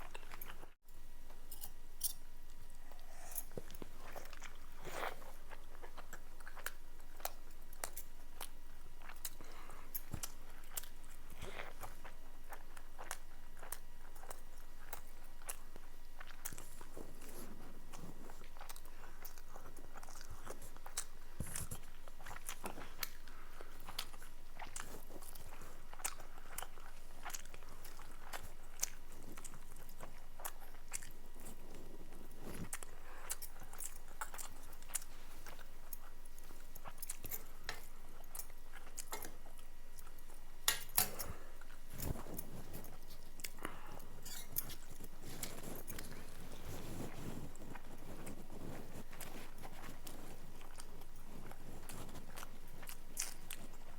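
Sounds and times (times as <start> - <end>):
person chewing and crunching food: 0.0 - 53.9.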